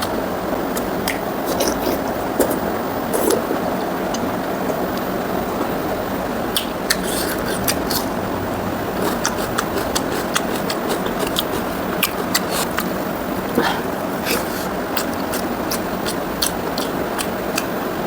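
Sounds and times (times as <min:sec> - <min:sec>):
wet mouth chewing sounds: 0:00.0 - 0:05.8, 0:06.5 - 0:17.8
steady background hum: 0:00.0 - 0:18.0.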